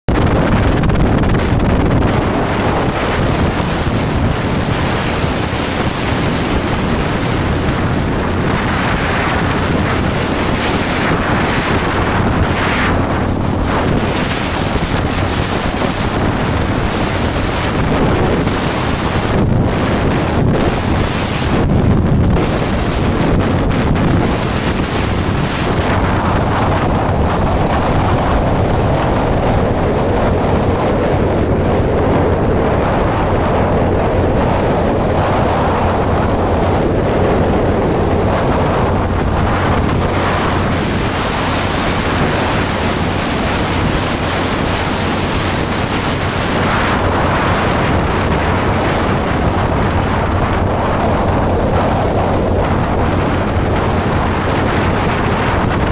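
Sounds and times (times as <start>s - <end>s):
motorcycle engine: 0.0s - 55.9s
road noise: 0.0s - 55.9s
wind rush on microphone: 0.0s - 55.9s.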